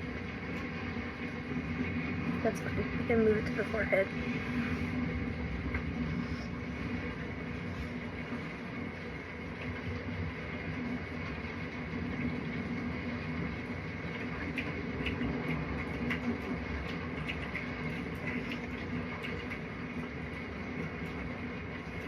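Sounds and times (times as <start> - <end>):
mechanical hum with whirring: 0.0 - 22.0.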